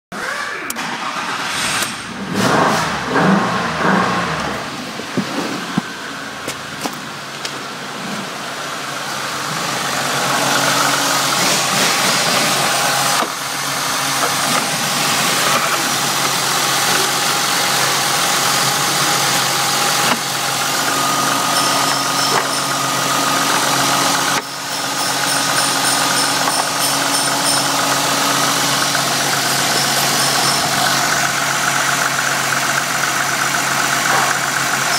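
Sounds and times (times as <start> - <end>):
car engine idling: 0.7 - 34.9.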